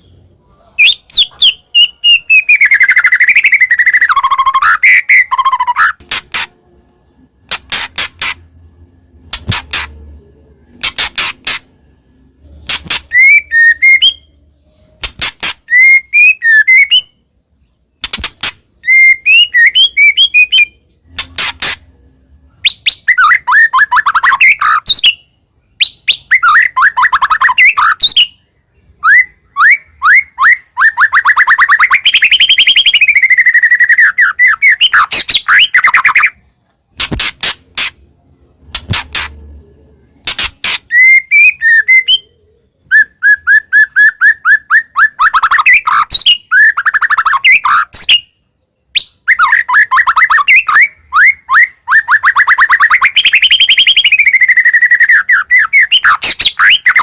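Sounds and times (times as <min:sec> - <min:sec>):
fast bird trill: 0:00.0 - 0:36.4, 0:37.0 - 0:57.0
bird singing clicks and whistles: 0:00.8 - 0:08.6, 0:09.2 - 0:10.1, 0:10.7 - 0:11.8, 0:12.6 - 0:14.3, 0:14.9 - 0:17.2, 0:18.0 - 0:22.0, 0:25.8 - 0:28.3, 0:29.1 - 0:39.5, 0:40.2 - 0:48.3, 0:48.9 - 0:57.0.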